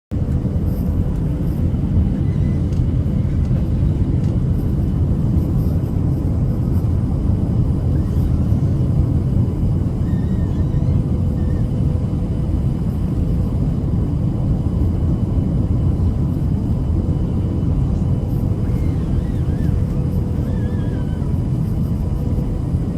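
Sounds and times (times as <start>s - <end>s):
airplane cabin rumble: 0.1s - 22.9s
faint steady hum: 0.2s - 22.9s.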